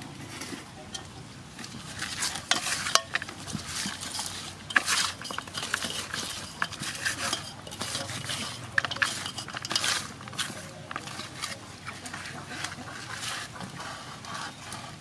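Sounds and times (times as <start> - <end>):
clicks and knocks against metal basin: 0.9 - 13.8
hands rustling herbs into fish: 1.5 - 15.0.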